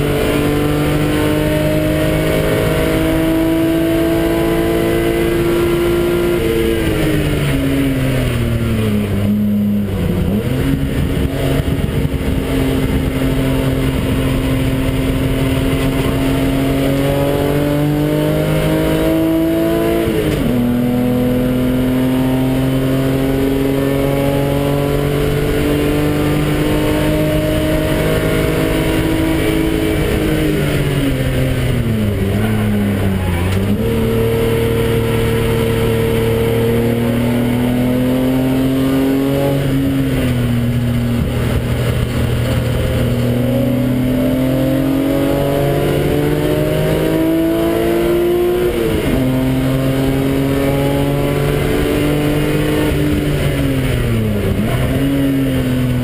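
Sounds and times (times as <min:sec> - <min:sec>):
car engine revving at high revs: 0:00.0 - 0:56.0.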